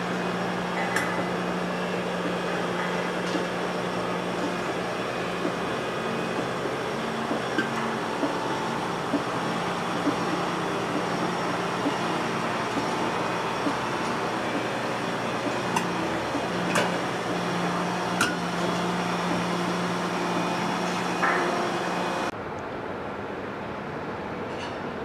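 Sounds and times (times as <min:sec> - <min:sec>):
excavator low hum: 0:00.0 - 0:22.3
metallic track clanks: 0:00.0 - 0:22.3.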